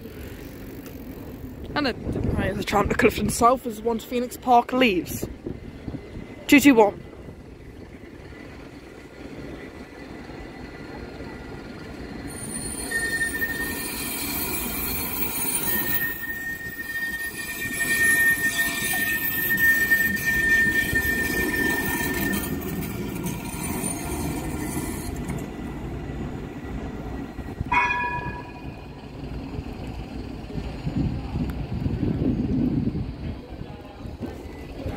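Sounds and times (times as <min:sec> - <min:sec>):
tram rumbling: 0:00.0 - 0:34.9
tram wheels squealing: 0:02.4 - 0:34.9.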